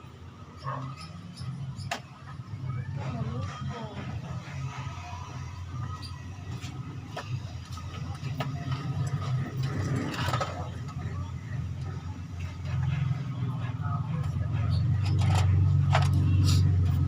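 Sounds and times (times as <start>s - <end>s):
engine humming: 0.0s - 17.0s
faint voices: 0.1s - 17.0s.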